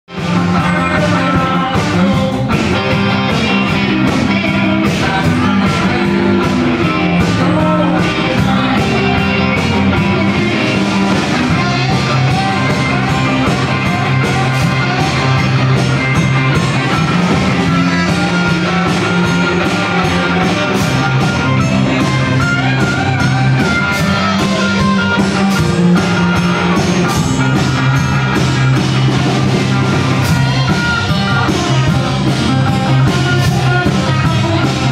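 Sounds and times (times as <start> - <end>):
rock band playing: 0.1 - 34.9.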